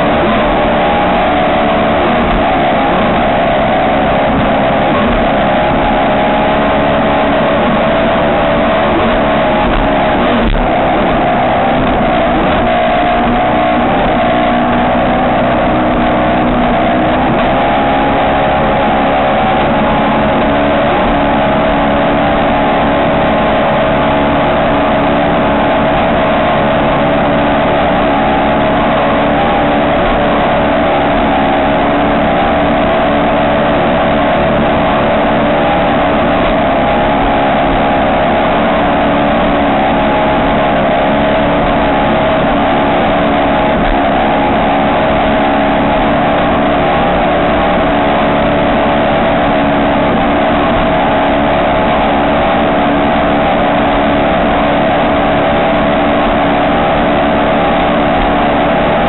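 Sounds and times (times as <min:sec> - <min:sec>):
boat engine running at high revs: 0:00.0 - 0:59.0.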